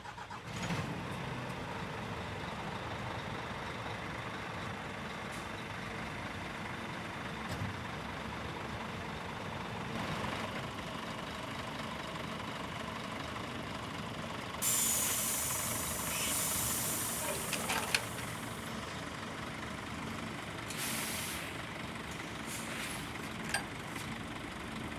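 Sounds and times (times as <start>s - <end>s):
diesel truck engine idling: 1.7s - 24.9s.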